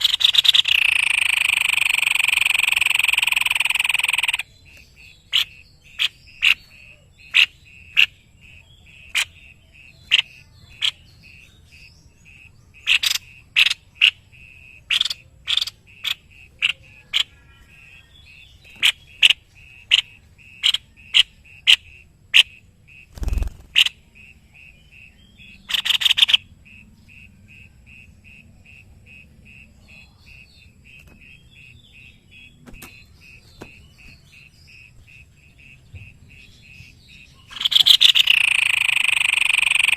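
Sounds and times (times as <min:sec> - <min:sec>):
fast pulsing chirp: 0:00.0 - 0:39.9
harsh rattling bird call: 0:00.0 - 0:39.9.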